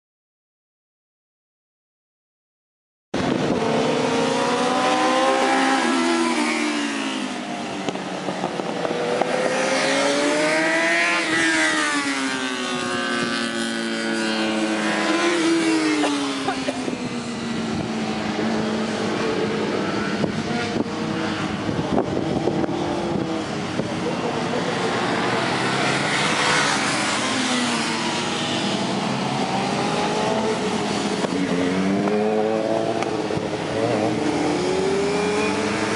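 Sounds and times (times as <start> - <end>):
motorcycles racing: 3.2 - 35.9.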